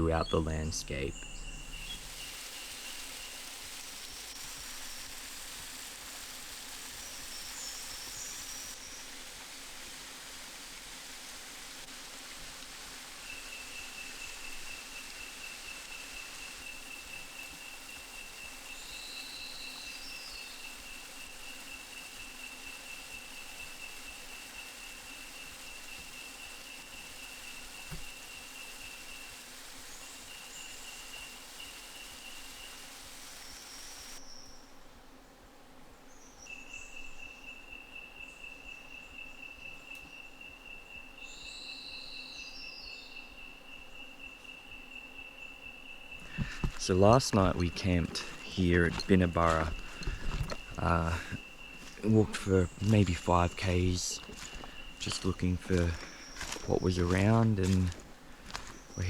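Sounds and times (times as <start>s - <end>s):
high insect trill: 0.0s - 34.9s, 36.1s - 59.0s
background hiss: 0.0s - 59.0s.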